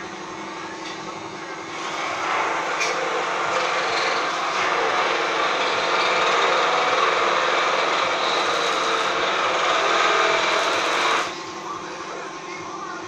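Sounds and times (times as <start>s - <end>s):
steady mechanical noise: 0.0s - 13.0s.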